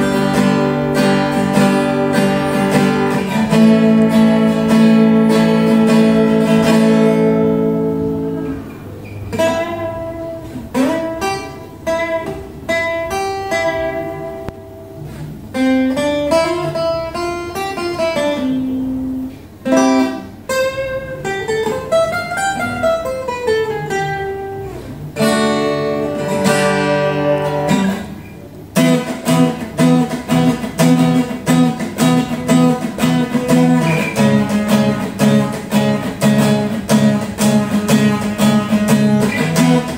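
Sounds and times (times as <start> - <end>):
acoustic guitar fingerstyle: 0.0 - 39.9.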